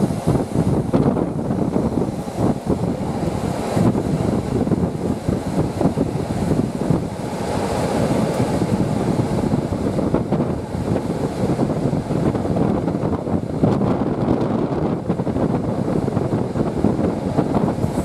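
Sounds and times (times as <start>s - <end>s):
train running along track: 0.0s - 18.0s
wind buffeting microphone: 0.0s - 18.0s.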